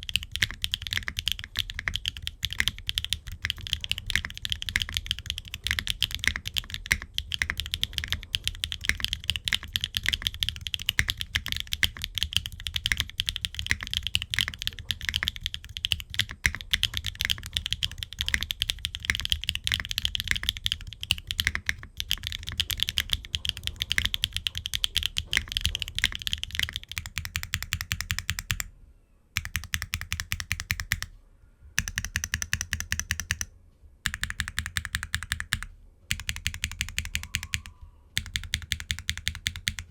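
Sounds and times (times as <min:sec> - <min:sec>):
fast mechanical keyboard typing: 0:00.0 - 0:28.7, 0:29.4 - 0:31.1, 0:31.8 - 0:39.9.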